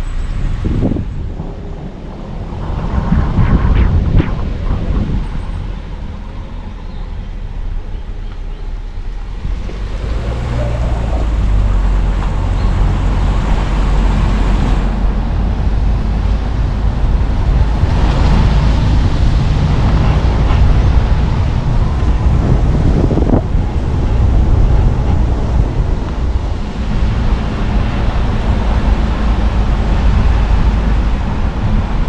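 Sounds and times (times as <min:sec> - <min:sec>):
tyres and engine rumble: 0:00.0 - 0:32.0
wind noise: 0:00.0 - 0:32.0.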